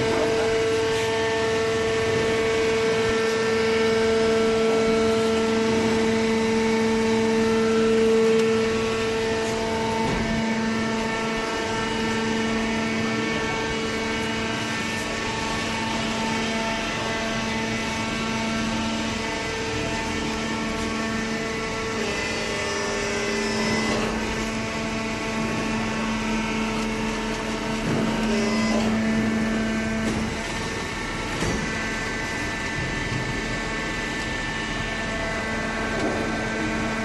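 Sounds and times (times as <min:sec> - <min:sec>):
baler machine hum: 0:00.0 - 0:37.0.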